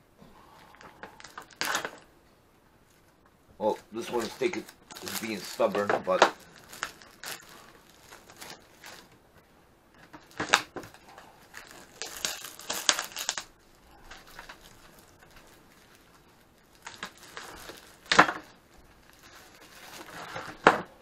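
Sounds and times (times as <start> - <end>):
plastic wrap crinkling: 0.5 - 2.1, 2.9 - 20.9
plastic wrap ripping: 0.6 - 2.1, 3.9 - 9.2, 10.0 - 20.8.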